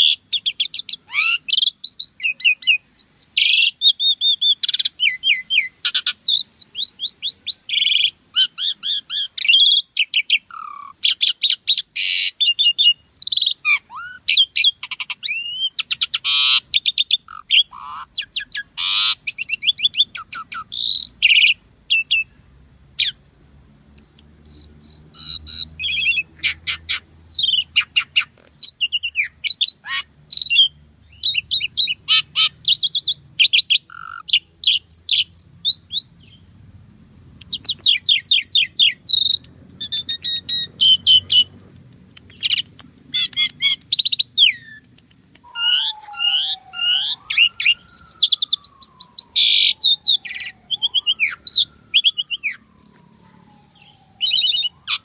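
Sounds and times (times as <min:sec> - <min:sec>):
myna bird singing whistles and chatter: 0:00.0 - 0:22.3, 0:24.0 - 0:36.5, 0:37.4 - 0:41.5, 0:42.1 - 0:55.0.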